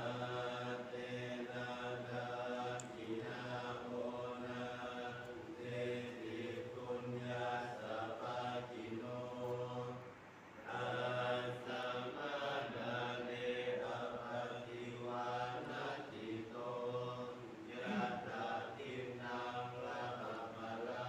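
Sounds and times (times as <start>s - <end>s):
group chanting in unison: 0.0s - 21.0s.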